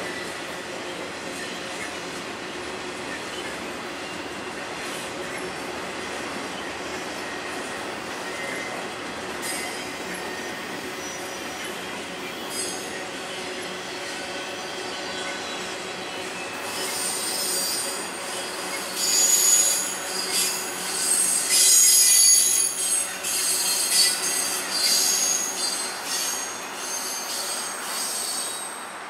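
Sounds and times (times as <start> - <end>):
rolling rumble of train cars: 0.0 - 29.0
train wheels squealing on rail: 0.0 - 29.0.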